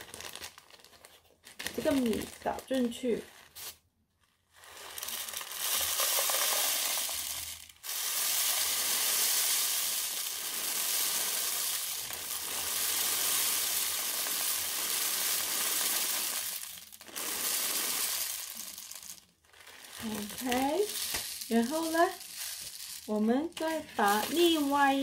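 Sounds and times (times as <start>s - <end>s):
rice pouring into rain stick: 4.6s - 25.0s.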